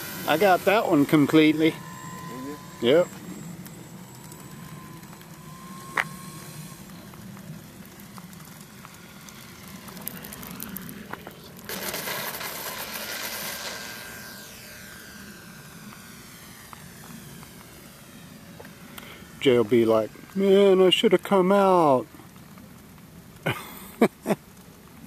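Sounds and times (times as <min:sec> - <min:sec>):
model plane propeller rush: 0:00.0 - 0:25.0.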